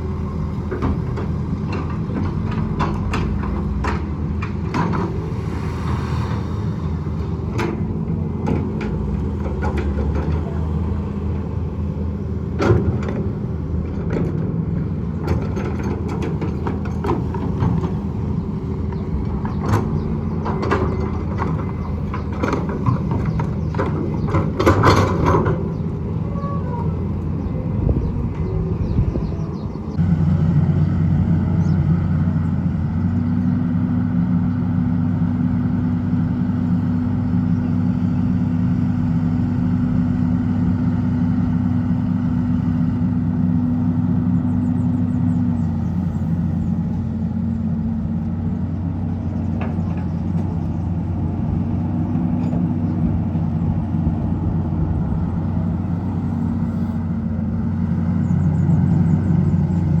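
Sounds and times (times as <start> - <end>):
excavator diesel engine: 0.0 - 60.0.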